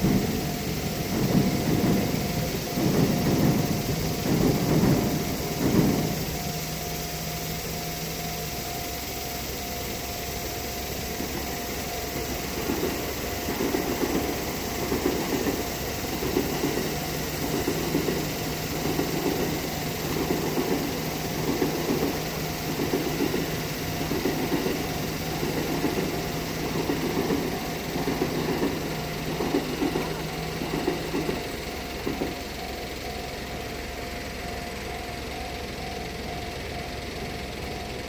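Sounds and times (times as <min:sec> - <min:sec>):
crossing alarm ringing: 0:00.0 - 0:38.0
train wheels clattering: 0:00.0 - 0:38.0.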